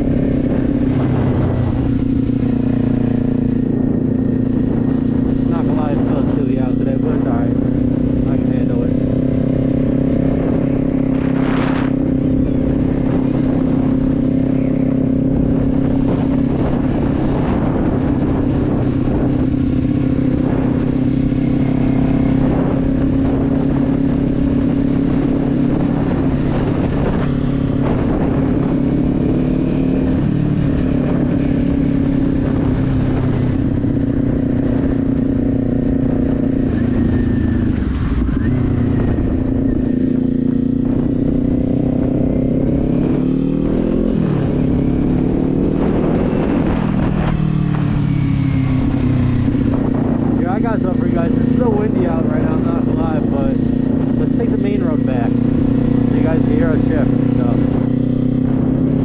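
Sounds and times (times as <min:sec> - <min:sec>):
motorcycle engine cruising: 0:00.0 - 0:59.0
wind on microphone: 0:00.0 - 0:59.0.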